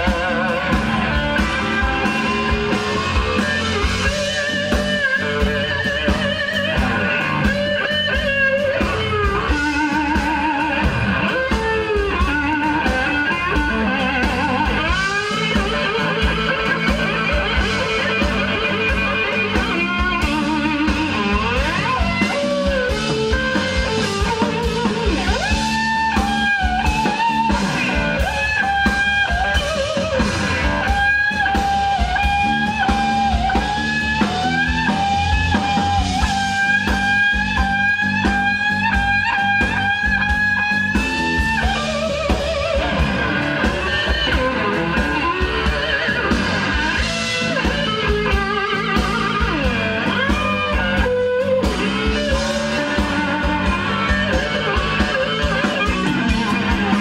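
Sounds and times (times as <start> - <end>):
electric slide guitar: 0.0 - 57.0.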